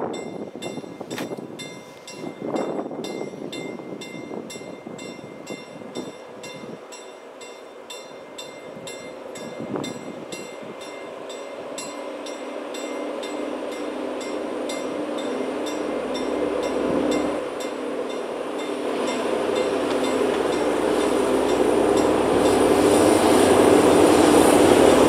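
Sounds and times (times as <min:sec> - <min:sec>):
crossing warning bell dinging: 0:00.0 - 0:25.0
freight train rumble: 0:00.0 - 0:25.0
low train engine tone: 0:00.0 - 0:25.0.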